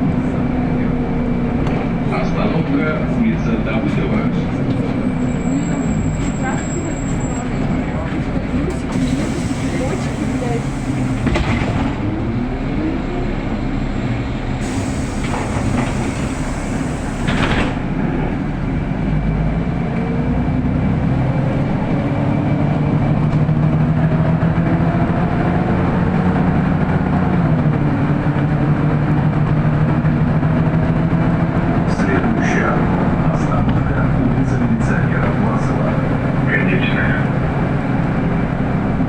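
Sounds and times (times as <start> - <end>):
bus engine droning: 0.0 - 39.0.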